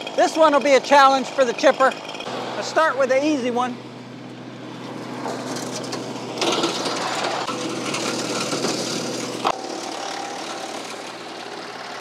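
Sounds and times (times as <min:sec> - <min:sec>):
chipper humming: 0:00.0 - 0:12.0
tractor engine droning: 0:00.0 - 0:12.0
wood chipper chipping branch: 0:00.0 - 0:12.0.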